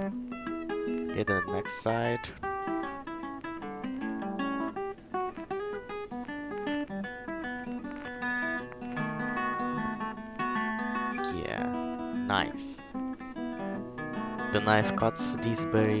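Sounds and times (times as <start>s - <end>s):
plucked acoustic guitar: 0.0s - 16.0s.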